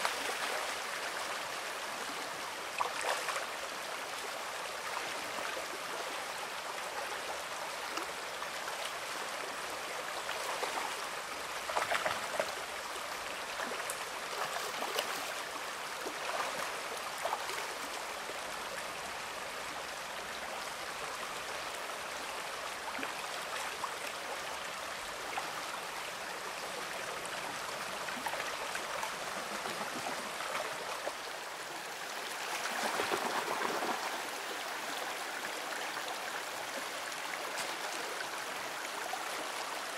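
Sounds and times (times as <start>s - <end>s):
creek water babbling over rocks: 0.0s - 39.9s.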